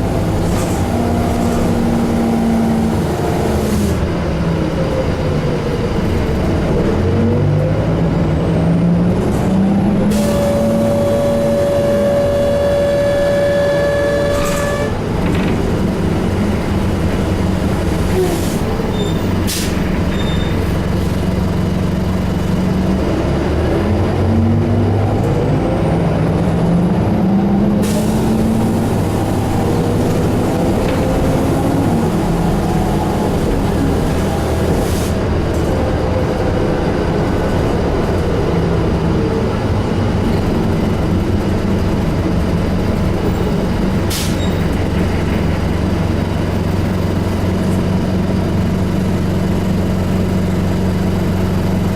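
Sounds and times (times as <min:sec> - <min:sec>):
bus engine rumbling: 0:00.0 - 0:51.9.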